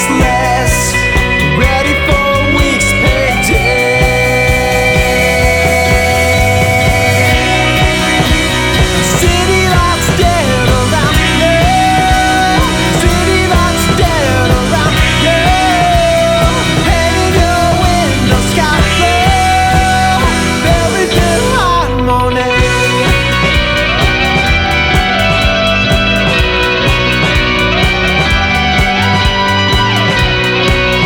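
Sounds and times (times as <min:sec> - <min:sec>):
lead guitar bending pitch: 0:00.0 - 0:31.0
rock band music: 0:00.0 - 0:31.0.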